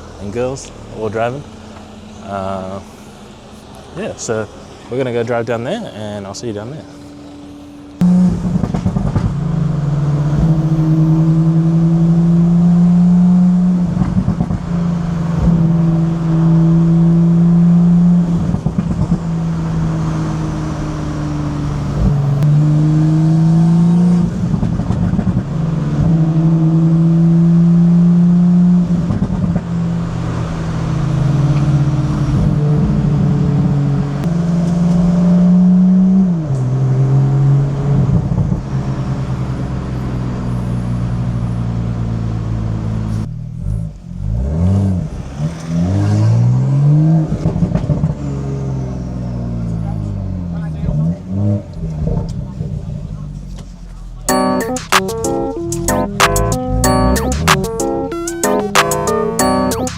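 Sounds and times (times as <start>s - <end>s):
car engine accelerating with upshifts: 6.5s - 59.9s.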